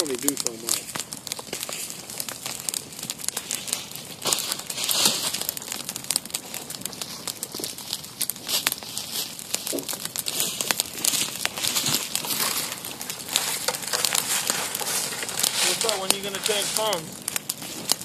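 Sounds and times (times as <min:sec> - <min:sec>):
fire crackling in dry leaves: 0:00.0 - 0:18.0.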